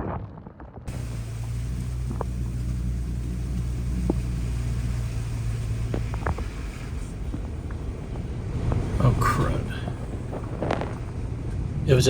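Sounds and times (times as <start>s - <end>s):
car engine idling: 0.9s - 12.0s.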